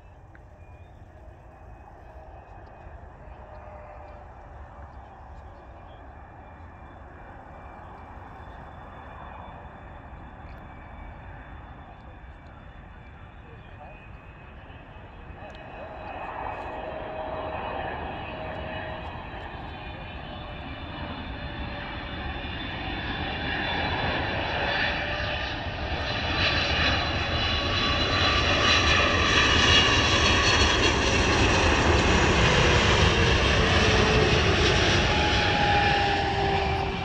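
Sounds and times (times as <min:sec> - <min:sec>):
jet engines on landing approach: 0:00.0 - 0:37.0.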